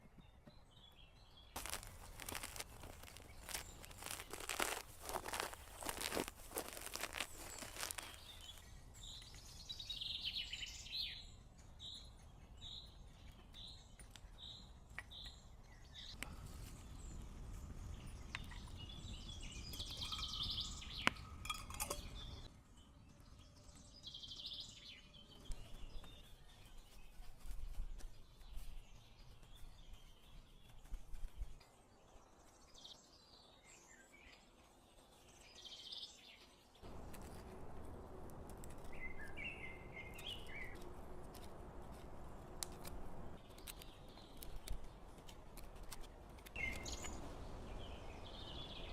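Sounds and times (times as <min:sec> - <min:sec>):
bird chirping: 0:00.1 - 0:36.8, 0:38.8 - 0:40.8, 0:46.5 - 0:48.9.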